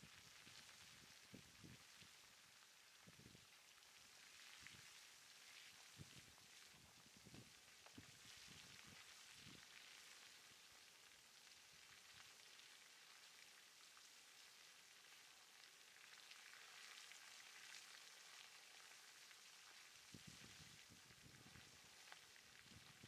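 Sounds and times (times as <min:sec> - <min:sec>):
lava crackling and sizzling: 0:00.0 - 0:23.0.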